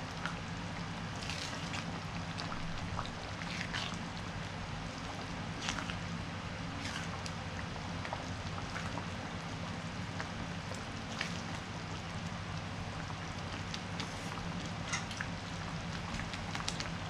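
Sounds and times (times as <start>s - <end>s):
curry simmering and bubbling: 0.0s - 17.0s.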